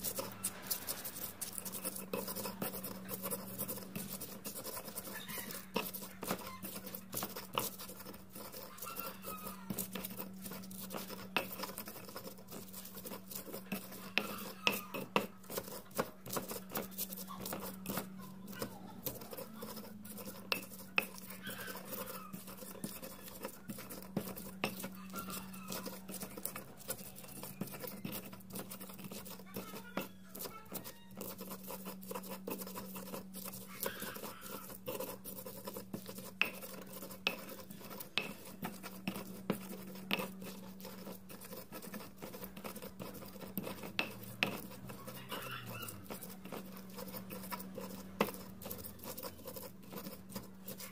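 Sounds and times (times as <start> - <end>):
stone pestle scraping: 0.0 - 50.9.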